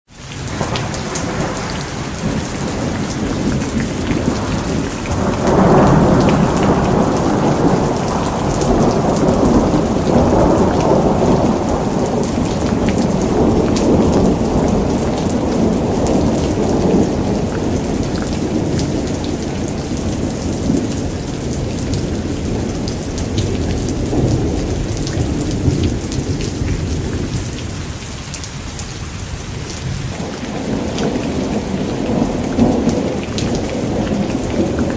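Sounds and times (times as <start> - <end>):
steady rain: 0.1 - 34.9
thunder rolling: 0.5 - 27.9, 29.5 - 34.9.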